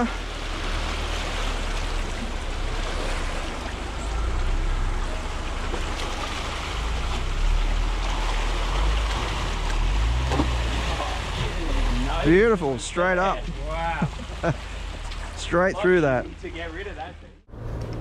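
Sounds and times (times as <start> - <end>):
water sloshing around tyres: 0.0 - 17.3
car engine running low: 0.0 - 18.0.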